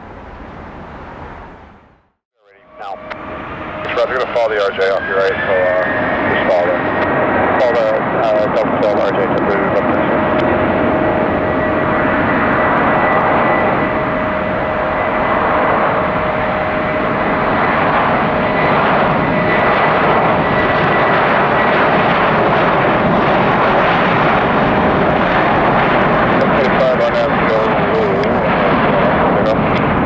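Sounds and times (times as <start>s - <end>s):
jet engines running: 2.4s - 30.0s.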